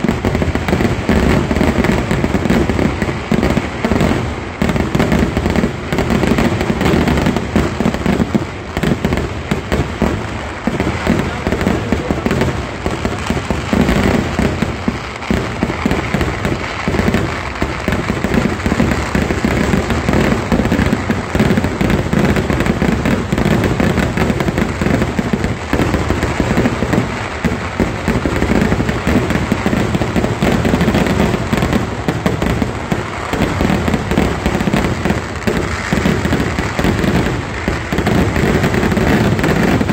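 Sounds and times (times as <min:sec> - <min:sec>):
firecracker bangs and crackling: 0:00.0 - 0:39.9.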